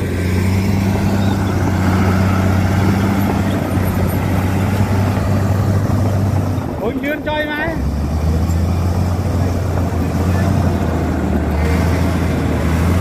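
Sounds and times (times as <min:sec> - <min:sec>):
heavy diesel engines running: 0:00.0 - 0:13.0.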